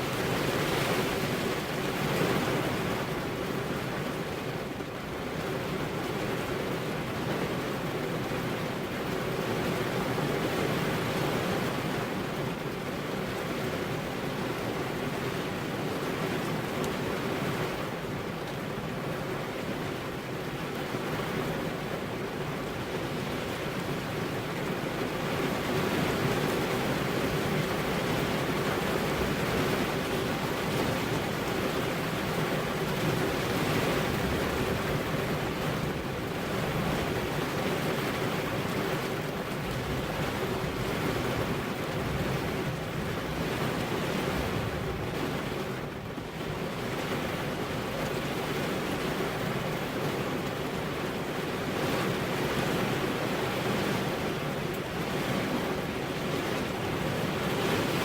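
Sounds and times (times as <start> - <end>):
heavy rain on car windows: 0.0 - 58.0.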